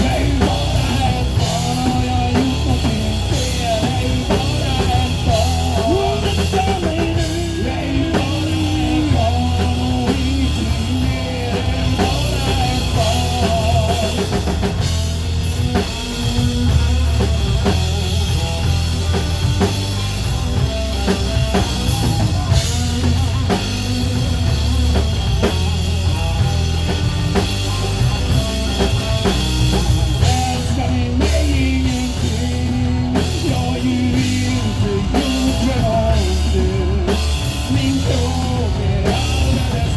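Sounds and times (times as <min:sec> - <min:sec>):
rock music on drums and guitar: 0:00.0 - 0:39.9.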